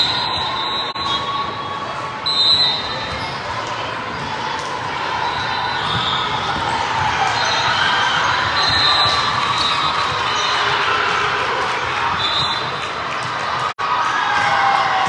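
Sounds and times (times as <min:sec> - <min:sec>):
spectator chatter: 0:00.0 - 0:15.0.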